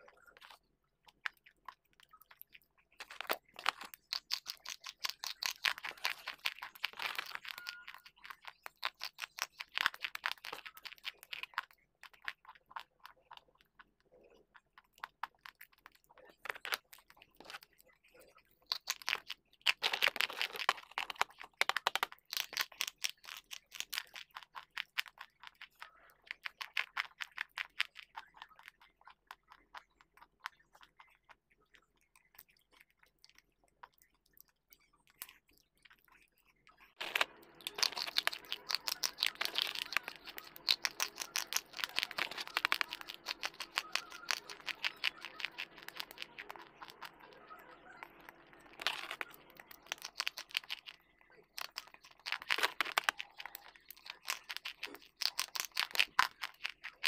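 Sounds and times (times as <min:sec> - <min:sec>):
chewing crunchy chalk: 0:00.0 - 0:57.0.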